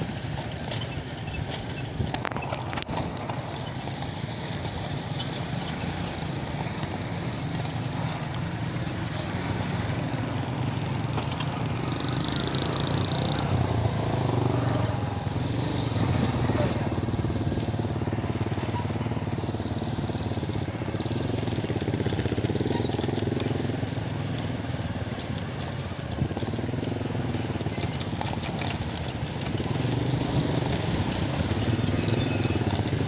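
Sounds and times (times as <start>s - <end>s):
motorcycle engine revving: 0.0s - 33.0s
road and wind noise: 0.0s - 33.0s.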